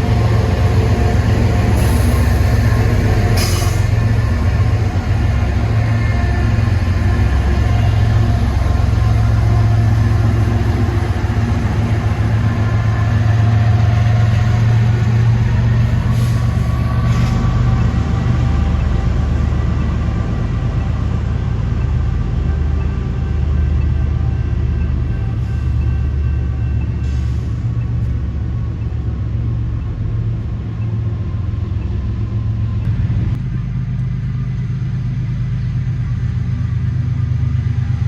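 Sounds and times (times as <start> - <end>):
train rumbling past: 0.0 - 38.0.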